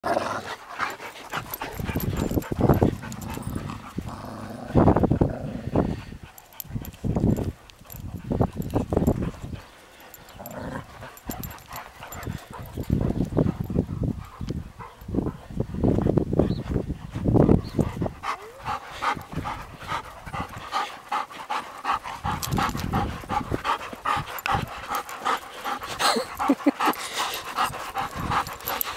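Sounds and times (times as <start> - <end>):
dog panting: 0.4 - 28.9.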